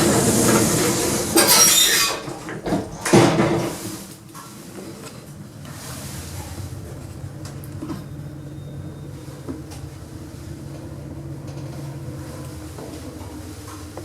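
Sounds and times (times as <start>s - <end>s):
lift car humming: 0.0s - 14.0s
lift doors sliding and clunking: 0.0s - 14.0s.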